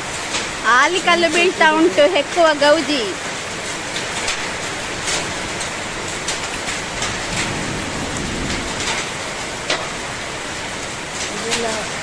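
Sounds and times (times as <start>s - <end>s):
hailstones ticking: 0.0s - 12.0s
heavy rain pouring: 0.0s - 12.0s.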